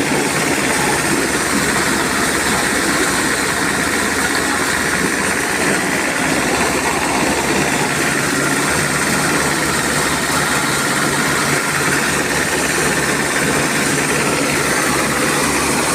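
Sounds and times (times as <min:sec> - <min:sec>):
car engine running: 0:00.0 - 0:15.9
thresher drum running: 0:00.0 - 0:15.9.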